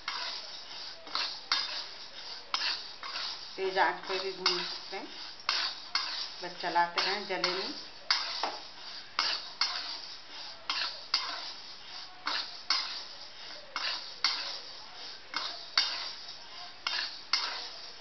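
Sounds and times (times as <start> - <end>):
grains sliding in pan: 0.0 - 18.0
metal spatula scraping pan: 0.0 - 18.0.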